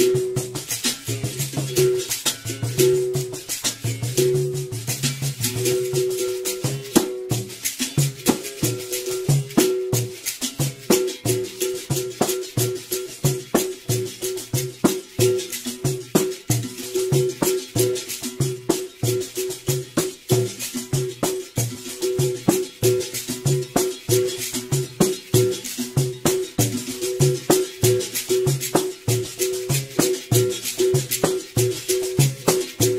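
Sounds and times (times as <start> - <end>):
basket rattle shaking: 0.0 - 32.9
berimbau playing: 0.0 - 32.9.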